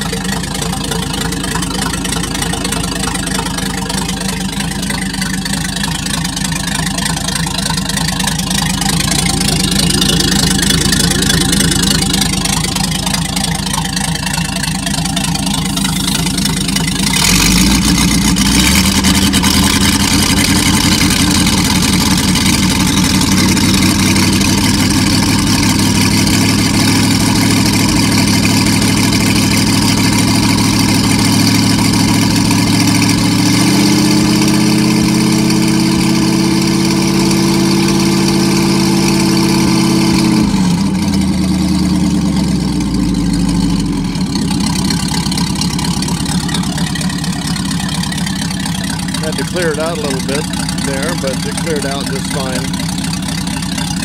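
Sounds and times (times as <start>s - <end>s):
boat engine running and revving: 0.0s - 54.0s.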